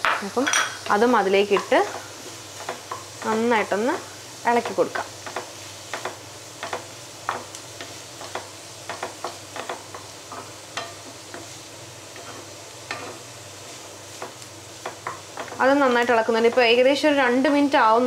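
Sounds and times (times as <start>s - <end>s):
vegetables sizzling in oil: 0.0s - 18.0s
spatula scraping and tapping pan: 0.5s - 3.7s, 4.5s - 17.7s.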